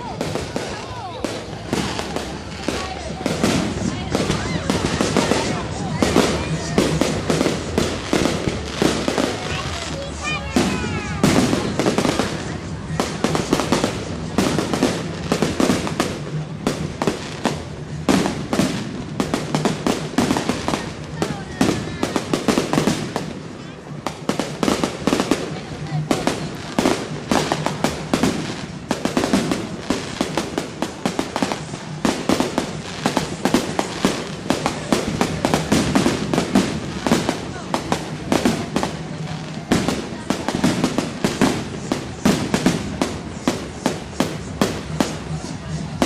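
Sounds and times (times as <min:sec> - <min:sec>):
fireworks bangs: 0:00.0 - 0:46.0
fireworks crackling: 0:00.0 - 0:46.0.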